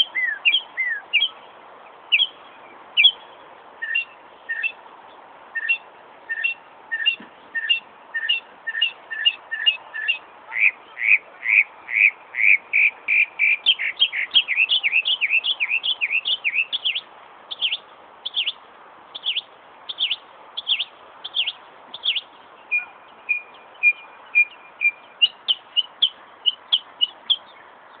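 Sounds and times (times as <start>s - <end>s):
mockingbird singing: 0.0s - 1.5s, 2.1s - 4.8s, 5.6s - 28.0s.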